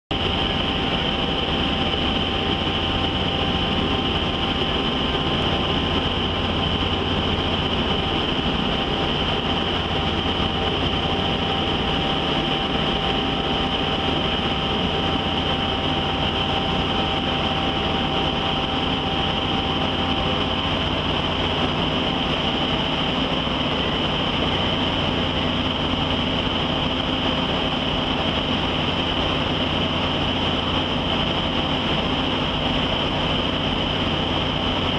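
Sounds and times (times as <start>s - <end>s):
faint steady whine: 0.1s - 34.9s
steady mechanical drone: 0.1s - 34.9s.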